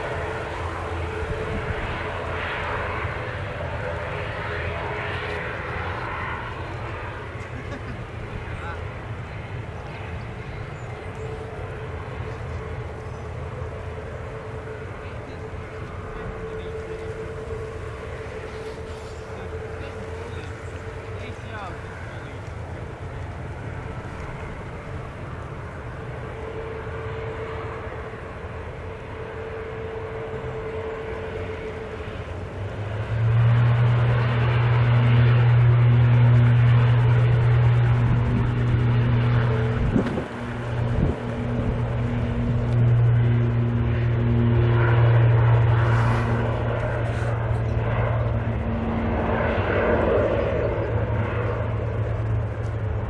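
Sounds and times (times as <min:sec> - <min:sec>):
turboprop engines droning: 0:00.0 - 0:53.0.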